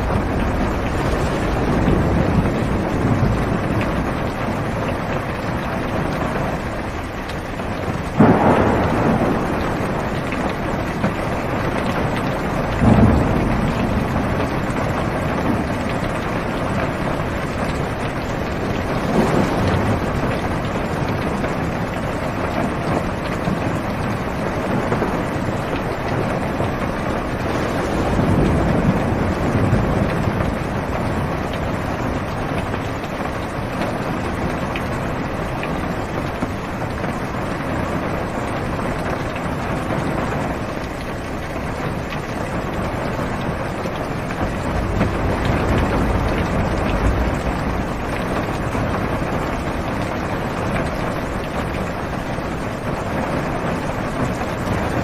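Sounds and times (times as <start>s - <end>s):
heavy rain drumming on car roof: 0.0s - 55.0s
low thunder rumbles: 0.0s - 55.0s.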